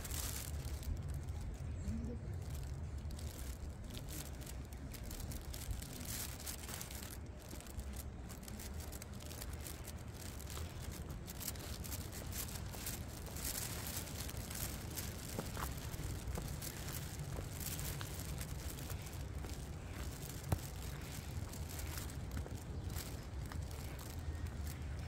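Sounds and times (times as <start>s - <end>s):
footsteps crunching on forest floor: 0.0s - 1.1s, 2.5s - 25.0s
low microphone rumble: 0.0s - 25.0s.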